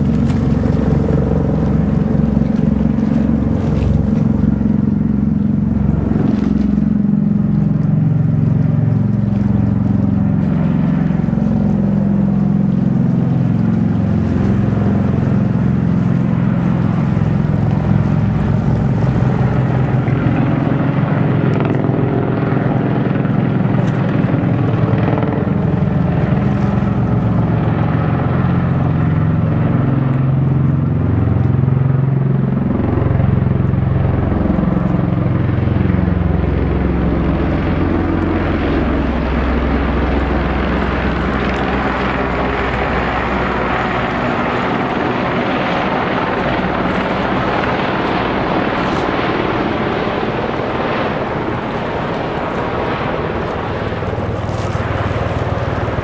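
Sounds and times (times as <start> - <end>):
aircraft rotors beating drone: 0.0 - 56.0.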